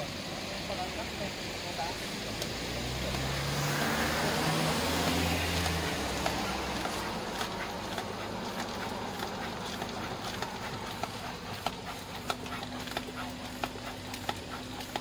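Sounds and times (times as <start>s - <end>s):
road noise: 0.0s - 15.0s
street traffic noise: 0.0s - 15.0s
vehicle engine running: 0.0s - 15.0s.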